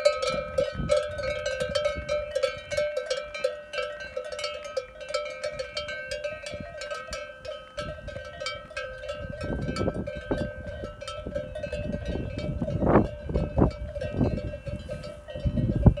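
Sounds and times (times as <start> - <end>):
cowbells clanking: 0.0 - 16.0.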